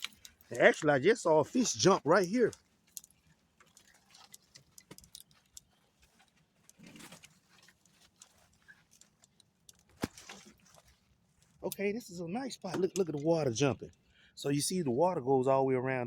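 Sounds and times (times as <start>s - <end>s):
fishing gear clicking and rattling: 0.0s - 14.1s.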